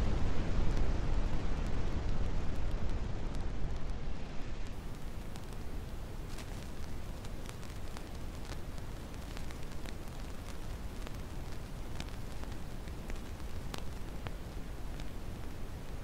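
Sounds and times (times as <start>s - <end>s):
crackles and pops: 0.0s - 16.0s
dense static noise: 0.0s - 16.0s.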